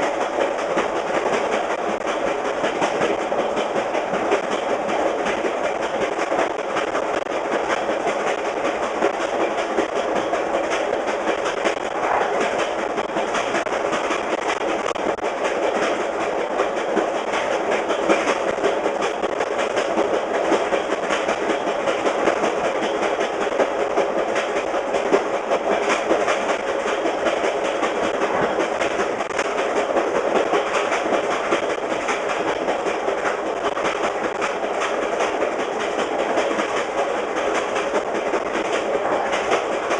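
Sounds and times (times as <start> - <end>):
train wheels clickety-clack on rails: 0.0 - 39.9.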